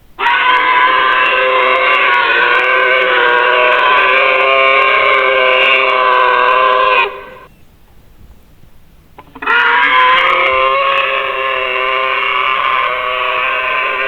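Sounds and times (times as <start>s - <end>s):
creature long pitched call: 0.2s - 7.5s, 9.2s - 14.0s.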